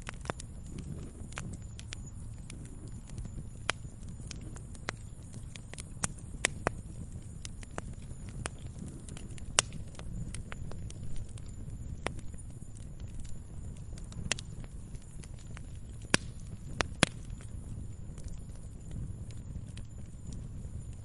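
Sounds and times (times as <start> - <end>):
fire crackling: 0.0 - 21.0
low rumble of fire: 0.0 - 21.0.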